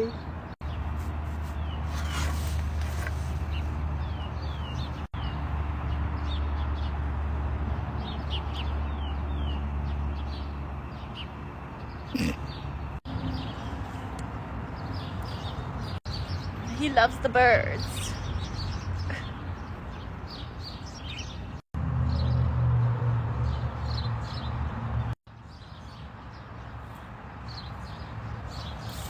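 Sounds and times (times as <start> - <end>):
small birds chirping: 0.0 - 7.1, 8.0 - 21.6, 25.3 - 29.0.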